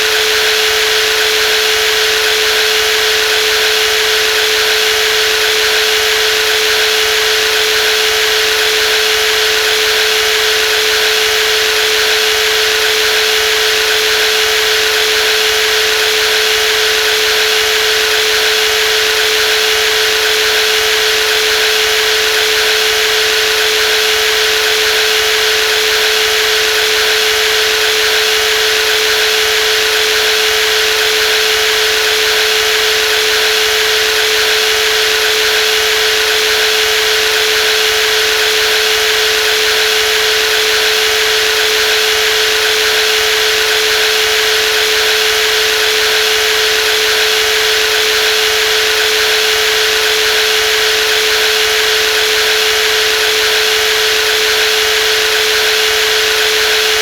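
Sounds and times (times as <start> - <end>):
jigsaw motor running: 0.0 - 57.0.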